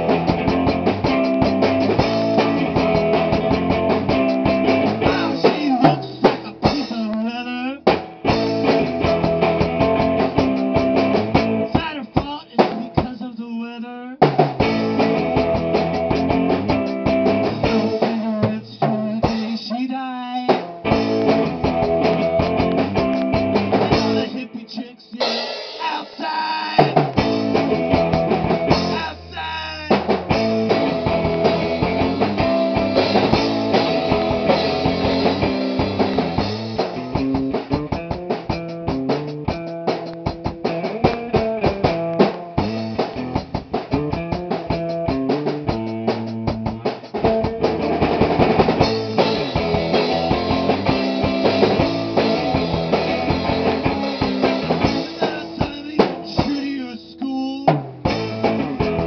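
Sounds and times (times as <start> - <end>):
guitar chords: 0.0 - 13.1, 14.4 - 19.6, 20.5 - 59.0
rock band playing: 0.0 - 13.2, 14.2 - 59.0
drum kit beat: 0.0 - 13.5, 14.2 - 59.0.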